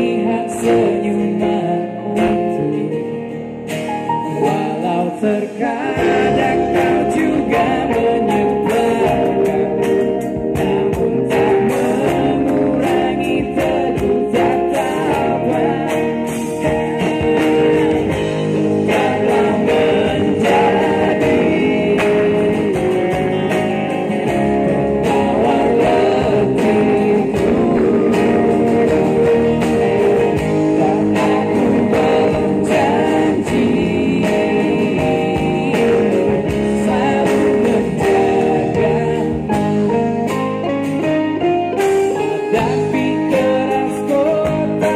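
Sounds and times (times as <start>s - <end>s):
men singing: 0.0s - 40.2s, 41.9s - 44.9s
live pop band playing: 0.0s - 44.9s.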